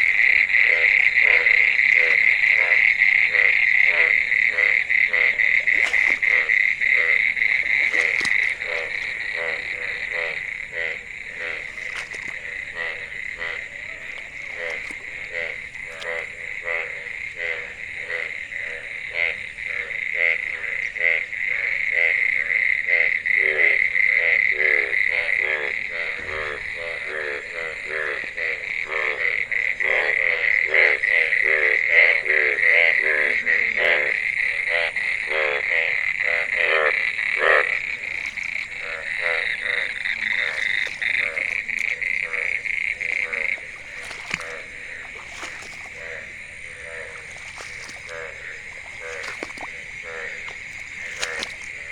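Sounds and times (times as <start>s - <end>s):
frogs croaking: 0.0s - 51.9s.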